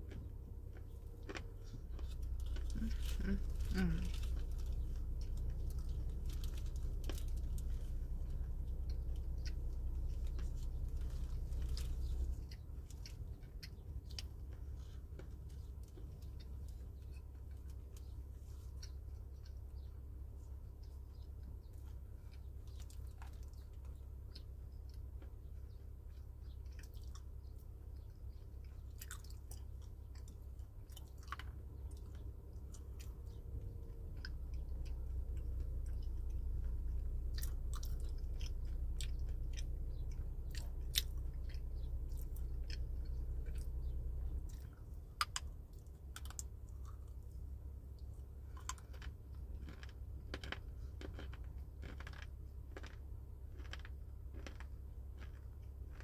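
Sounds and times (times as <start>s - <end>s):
low rumble: 0.0s - 25.0s, 27.5s - 56.0s
chewing and crunching: 0.0s - 56.0s.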